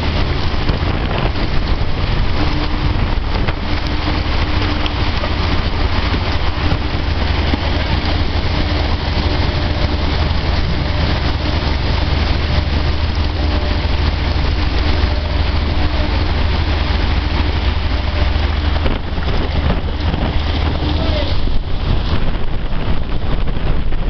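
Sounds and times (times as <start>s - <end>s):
dryer running: 0.0s - 24.0s.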